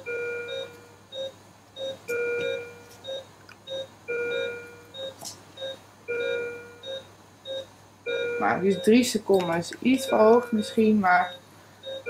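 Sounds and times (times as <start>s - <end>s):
two-tone alarm beep: 0.0s - 12.0s
patient monitor short beeps: 0.1s - 12.0s.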